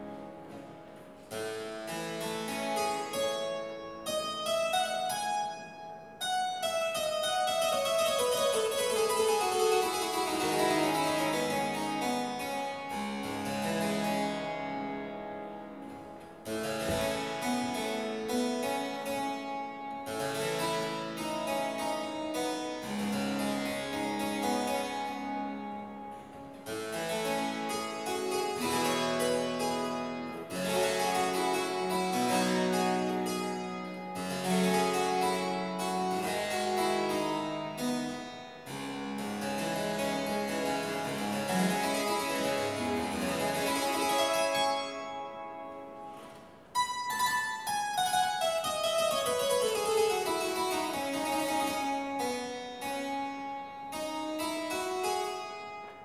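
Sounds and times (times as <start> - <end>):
solo harpsichord playing: 0.0 - 56.0.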